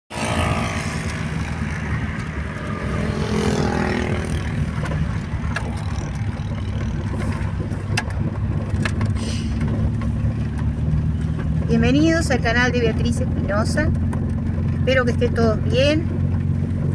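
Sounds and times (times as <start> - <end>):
car engine and road rumble: 0.1 - 16.9.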